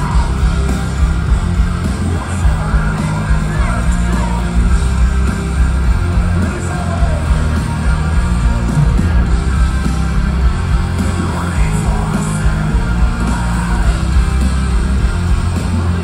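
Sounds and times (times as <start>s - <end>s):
distorted guitars: 0.0s - 16.0s
drums: 0.0s - 16.0s
heavy bass: 0.0s - 16.0s
vocals: 0.0s - 16.0s.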